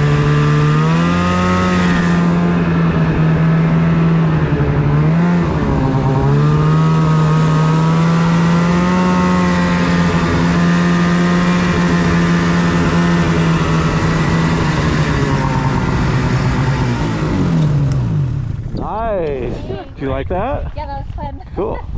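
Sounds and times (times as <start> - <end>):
snowmobile engine running: 0.0 - 20.6.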